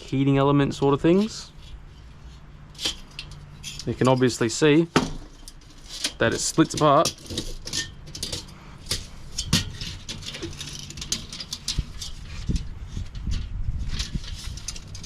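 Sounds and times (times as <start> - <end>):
metal parts clicking and rattling: 1.1 - 15.0.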